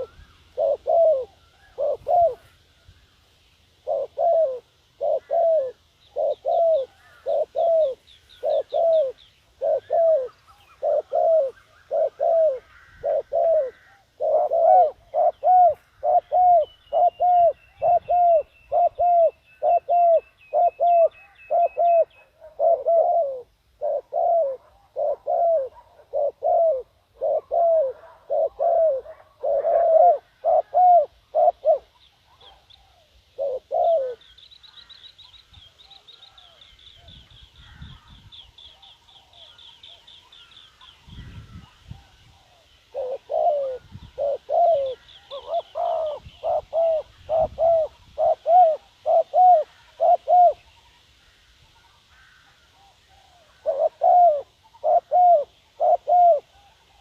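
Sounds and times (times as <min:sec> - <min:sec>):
doves cooing: 0:00.0 - 0:57.0
small birds chirping: 0:00.0 - 0:57.0.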